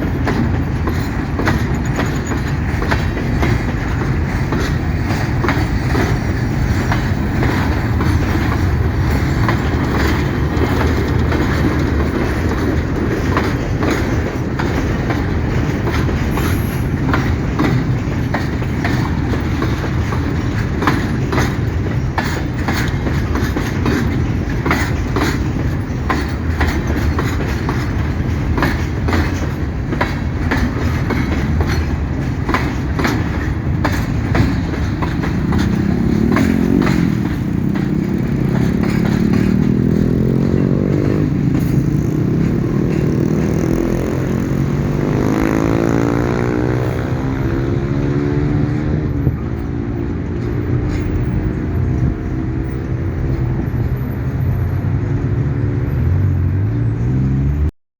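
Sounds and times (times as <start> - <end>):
wheel clacks over rail joints: 0.0 - 56.0
freight train rumbling past: 0.0 - 57.7.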